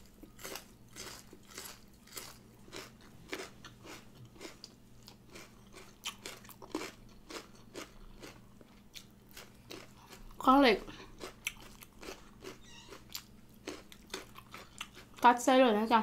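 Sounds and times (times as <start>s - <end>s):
person chewing crunchy radish: 0.0s - 15.2s.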